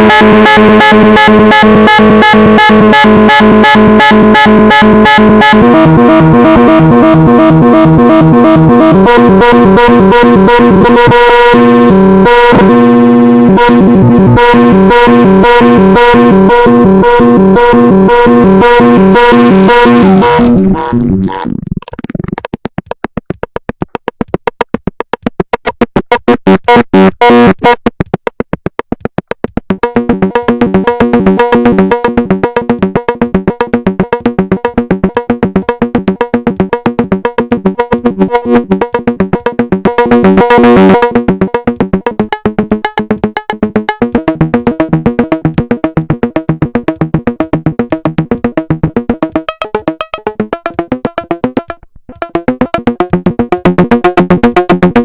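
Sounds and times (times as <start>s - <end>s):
synthesizer fast arpeggio: 0.0s - 55.0s.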